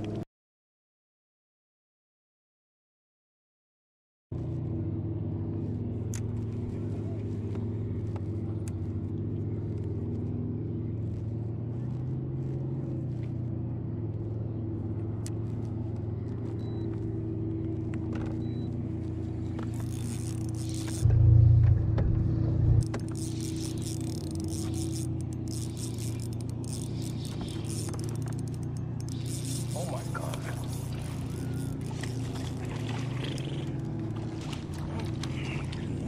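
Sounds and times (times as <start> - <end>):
low rumble: 4.4 - 36.0
motor humming steadily: 4.4 - 36.0.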